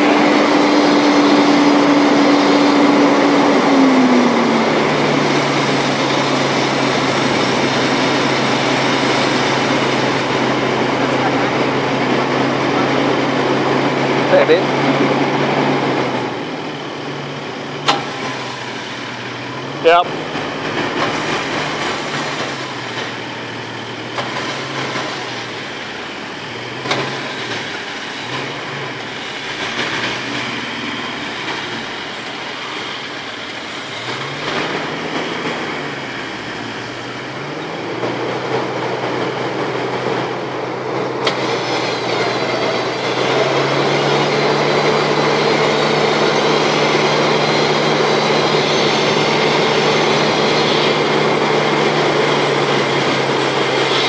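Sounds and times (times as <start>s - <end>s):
electric winch whining: 0.0s - 54.0s
vehicle engine: 0.0s - 54.0s.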